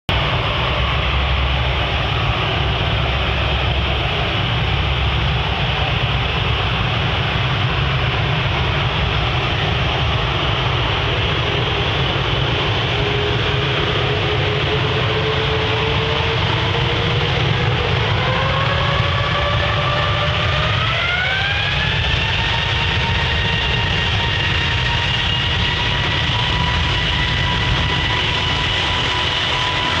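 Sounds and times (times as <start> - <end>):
jet engines spooling up: 0.1 - 30.0.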